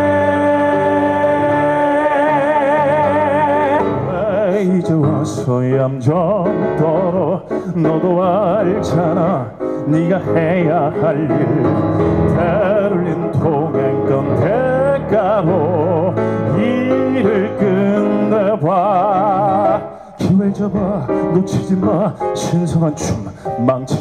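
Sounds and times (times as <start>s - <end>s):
instrumental accompaniment: 0.0s - 24.0s
man singing into a microphone: 0.0s - 24.0s.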